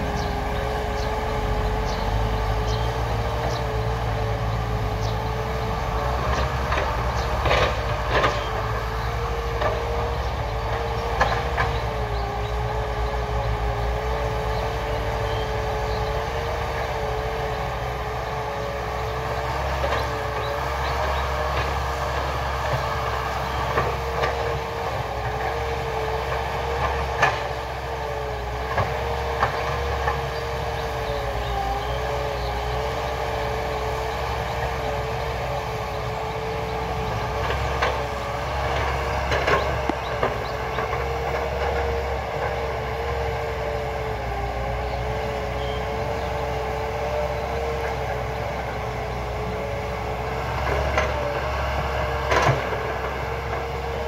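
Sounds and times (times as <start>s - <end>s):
excavator diesel engine rumbling: 0.0s - 54.0s.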